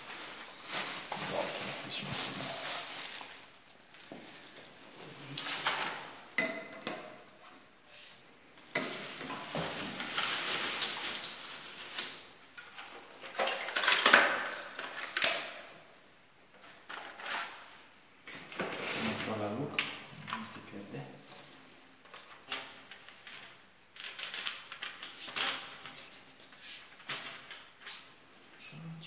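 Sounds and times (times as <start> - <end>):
plastic bags rustling: 0.0 - 7.4, 8.0 - 15.7, 16.6 - 28.6.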